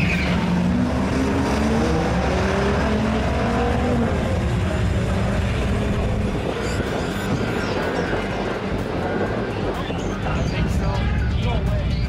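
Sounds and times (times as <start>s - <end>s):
car engine accelerating hard: 0.0s - 10.2s.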